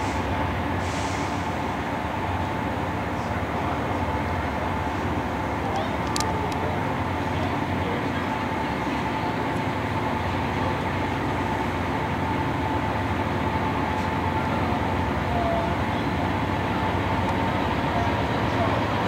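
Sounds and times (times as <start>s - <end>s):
diesel locomotive engine rumble: 0.0s - 19.0s
rail and wheel noise: 0.0s - 19.0s.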